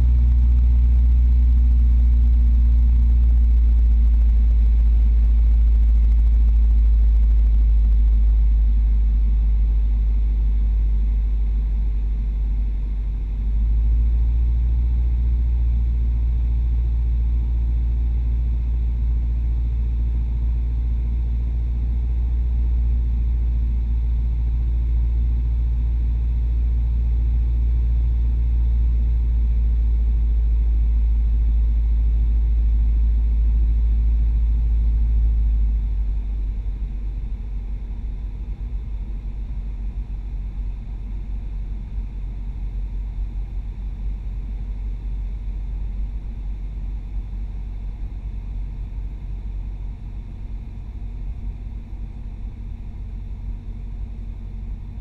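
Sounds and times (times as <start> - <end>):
light aircraft engine drone in cabin: 0.0 - 55.0.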